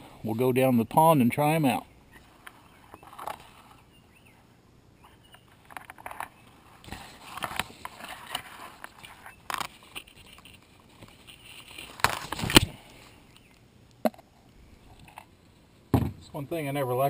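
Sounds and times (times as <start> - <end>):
leaves and twigs rustling: 2.0 - 15.9.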